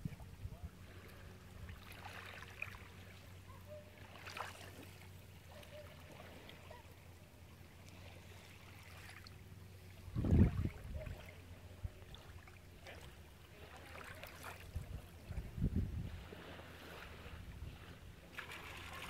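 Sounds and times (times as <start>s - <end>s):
low steady hum: 0.0s - 19.0s
soft water noise: 0.0s - 19.0s.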